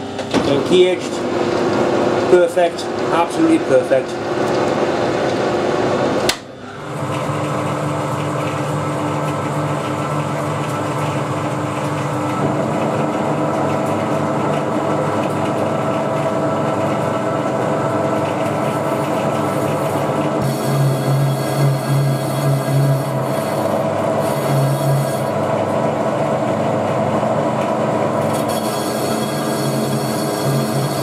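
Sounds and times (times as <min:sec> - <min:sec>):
lathe humming and whining: 0:00.0 - 0:31.0.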